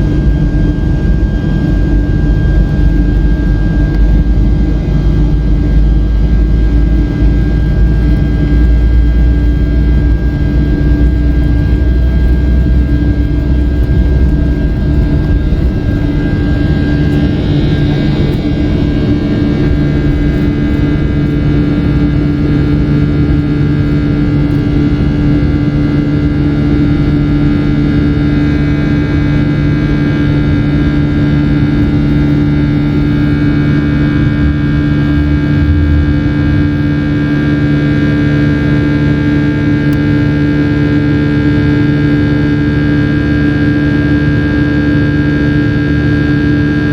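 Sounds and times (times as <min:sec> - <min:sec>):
deep rumble: 0:00.0 - 0:44.4
jet engine drone in cabin: 0:00.0 - 0:46.9.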